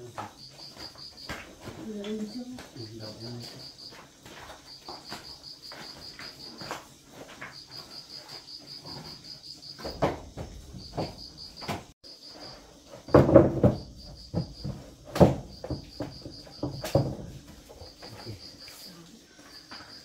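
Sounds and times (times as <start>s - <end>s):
objects knocking and clattering: 0.0s - 18.5s
insect chirping: 0.0s - 20.0s.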